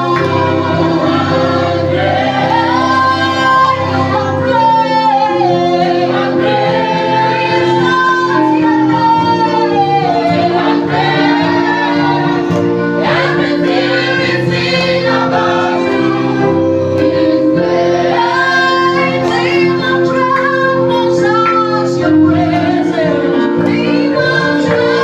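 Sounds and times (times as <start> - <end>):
choir singing: 0.0 - 25.0
keyboard holding long chords: 0.0 - 25.0
lead voice singing: 0.0 - 25.0.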